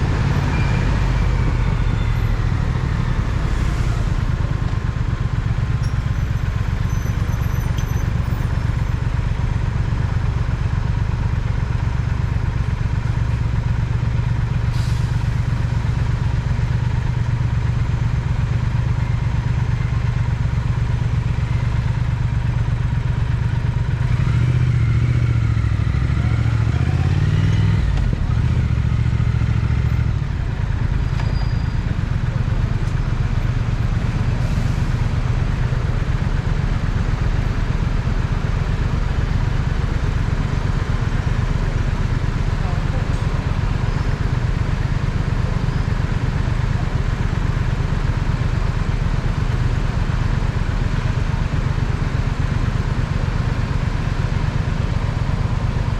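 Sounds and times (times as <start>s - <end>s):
motorcycle engine rumble: 0.0s - 55.9s.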